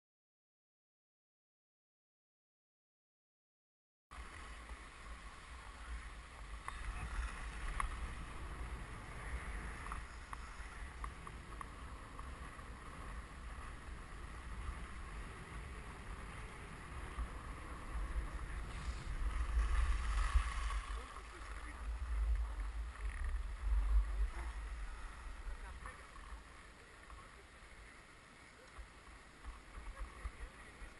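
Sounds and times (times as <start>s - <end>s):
wind rumble on microphone: 4.1s - 30.9s
skis scraping over snow: 4.2s - 30.9s.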